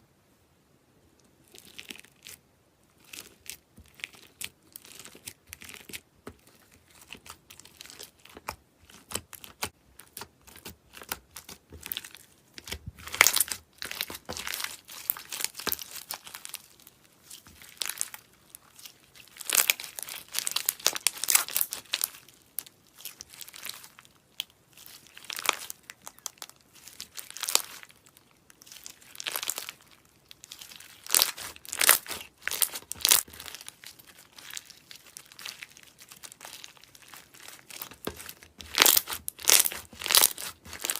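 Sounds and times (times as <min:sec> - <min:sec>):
slime crackling and popping: 0:03.0 - 0:40.9.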